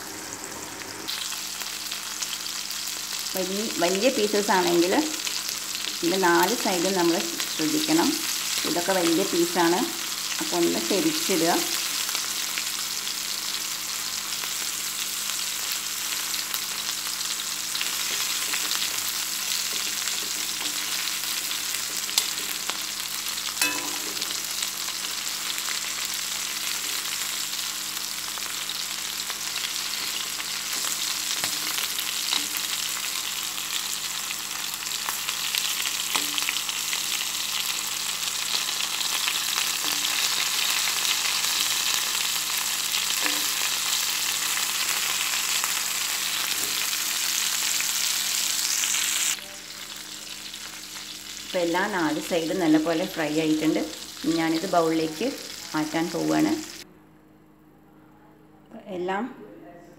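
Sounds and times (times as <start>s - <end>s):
chicken sizzling in oil: 0.0s - 56.8s.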